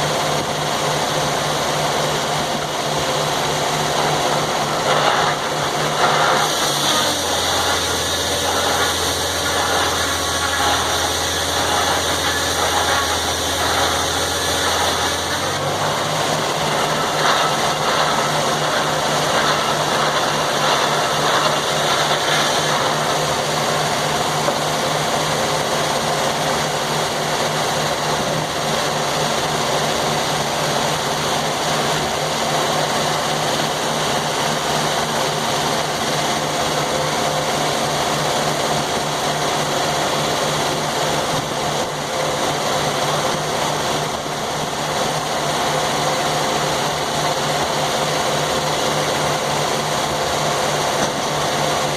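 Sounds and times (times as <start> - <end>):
sawmill engine humming: 0.0 - 51.9.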